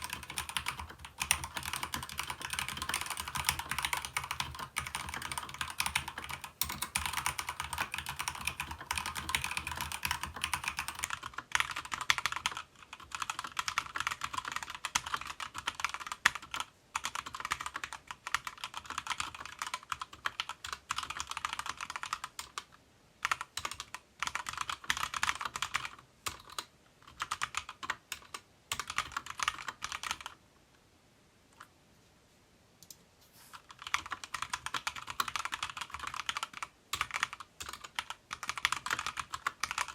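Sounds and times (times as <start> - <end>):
mechanical keyboard typing: 0.0 - 30.4, 33.6 - 39.9.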